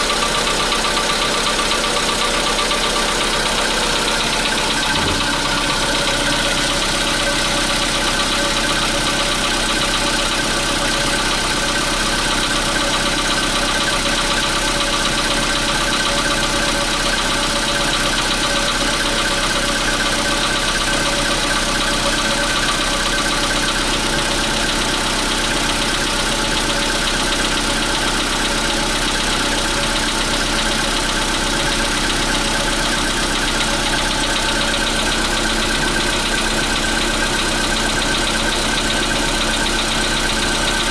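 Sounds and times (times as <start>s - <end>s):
engine knock: 0.0s - 40.9s
petrol engine idling: 0.0s - 40.9s.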